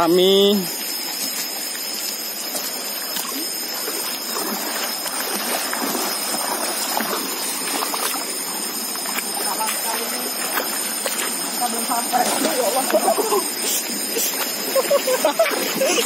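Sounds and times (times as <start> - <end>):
stream running over rocks: 0.0 - 16.0
feet wading splashes: 1.0 - 16.0.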